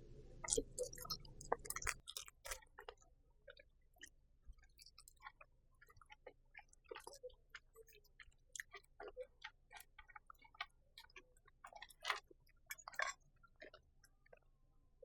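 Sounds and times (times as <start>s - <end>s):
chewing food: 0.4s - 14.7s.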